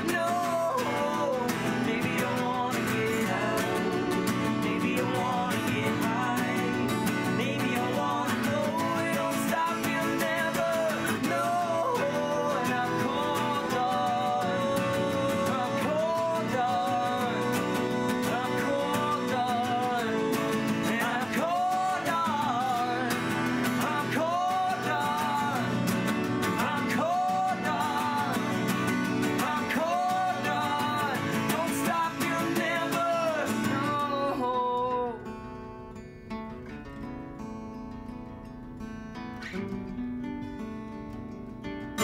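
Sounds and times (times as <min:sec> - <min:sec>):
person singing: 0:00.0 - 0:35.5
acoustic guitars strumming: 0:00.0 - 0:42.0.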